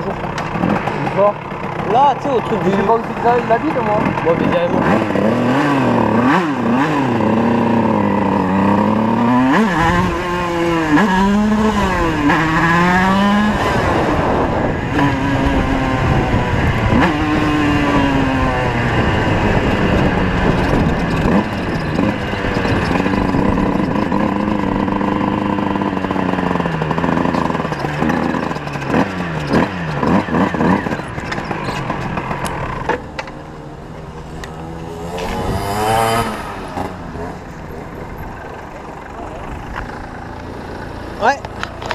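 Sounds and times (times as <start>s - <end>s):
moped engines revving: 0.0s - 41.9s.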